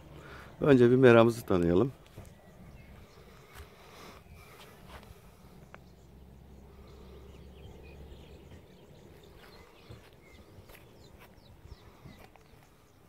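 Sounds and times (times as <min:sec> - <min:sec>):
faint bird chirps: 0:02.0 - 0:13.0.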